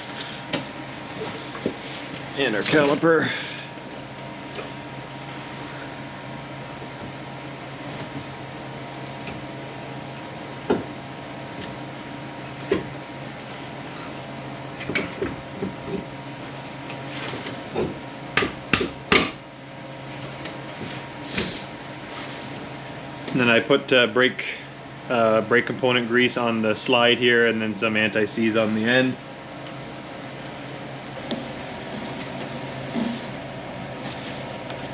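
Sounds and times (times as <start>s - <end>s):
steady background hum: 0.0s - 34.9s.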